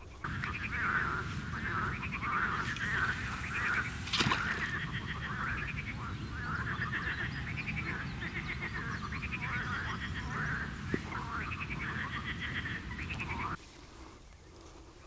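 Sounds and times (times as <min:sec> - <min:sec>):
frogs trilling chorus: 0:00.0 - 0:13.6.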